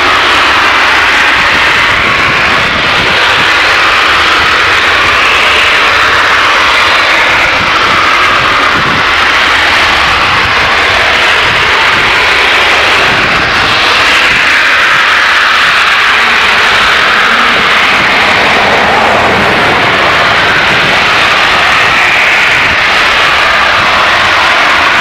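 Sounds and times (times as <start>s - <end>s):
gas venting hiss: 0.0s - 25.0s.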